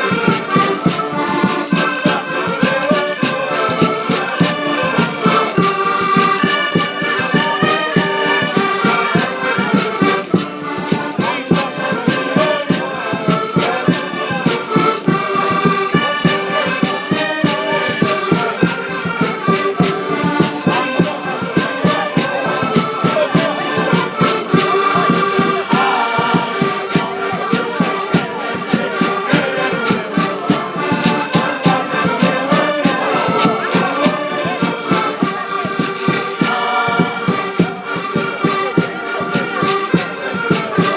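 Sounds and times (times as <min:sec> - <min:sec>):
live band music: 0:00.0 - 0:40.9.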